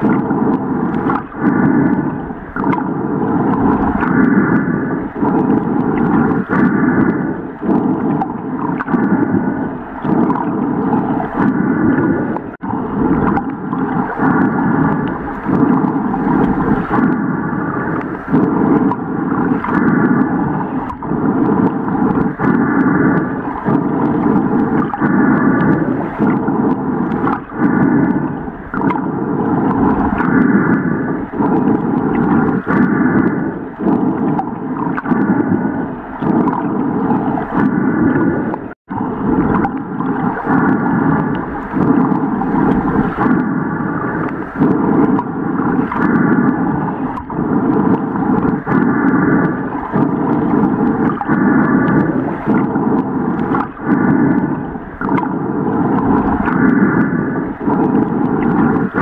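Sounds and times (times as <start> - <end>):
underwater low rushing: 0.0 - 59.0.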